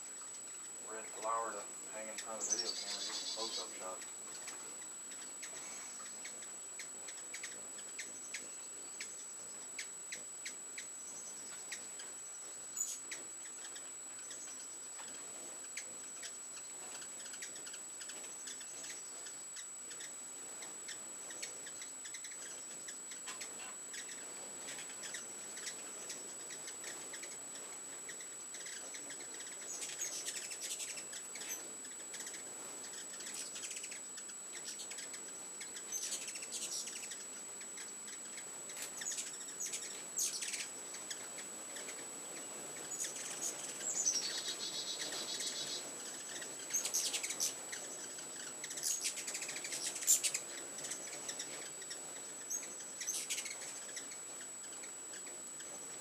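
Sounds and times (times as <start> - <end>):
hummingbirds chipping: 0.0 - 56.0.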